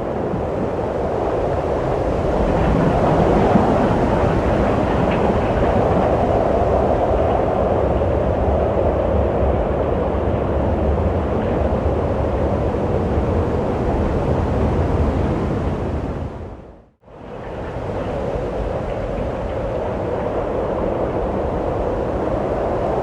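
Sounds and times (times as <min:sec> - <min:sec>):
wind blowing: 0:00.0 - 0:23.0.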